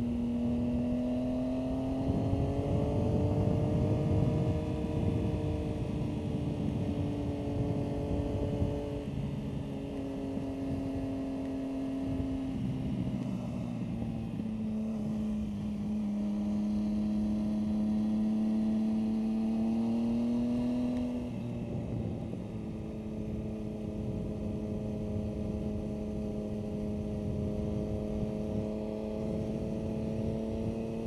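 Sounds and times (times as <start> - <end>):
motorcycle engine running: 0.0 - 31.0
wind noise: 0.0 - 31.0.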